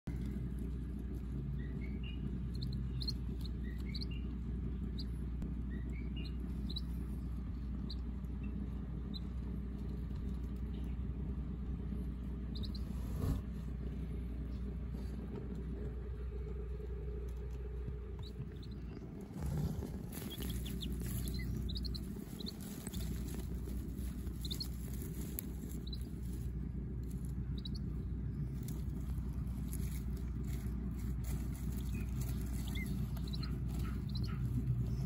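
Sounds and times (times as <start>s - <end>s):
steady low hum: 0.0s - 35.0s
ducklings peeping: 0.1s - 35.0s.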